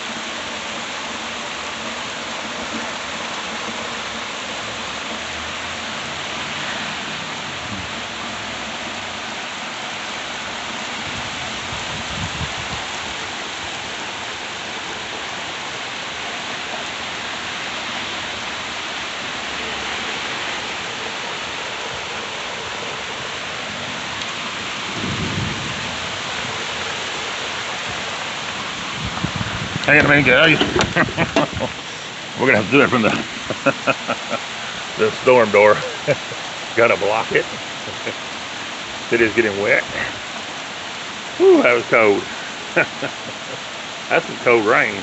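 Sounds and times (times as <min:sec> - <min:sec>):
heavy rain: 0:00.0 - 0:45.0.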